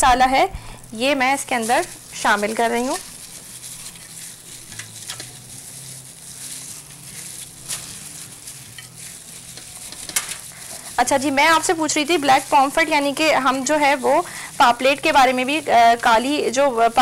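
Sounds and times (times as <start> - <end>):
steady low hum and hiss: 0.0 - 17.0
plastic bag rustling: 0.1 - 17.0.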